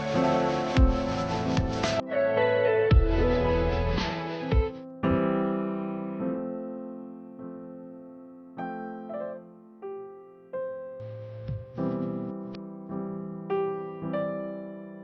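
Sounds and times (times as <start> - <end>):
slow electric piano chords: 0.0 - 15.0.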